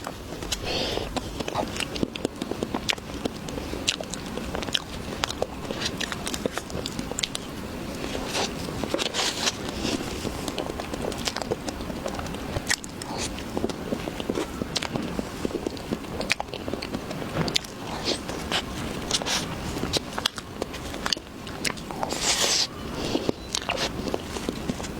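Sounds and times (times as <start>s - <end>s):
person chewing fruit: 0.0s - 24.9s.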